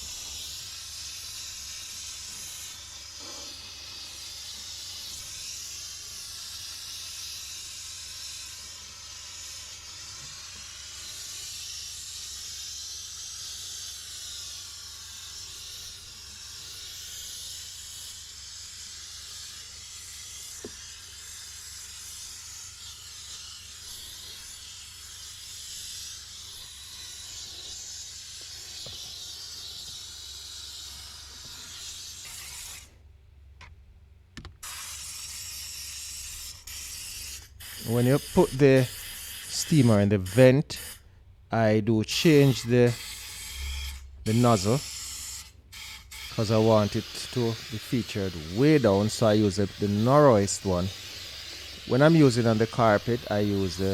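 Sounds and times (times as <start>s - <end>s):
steam cleaner hissing: 0.0s - 32.9s, 34.6s - 41.0s, 42.1s - 53.9s.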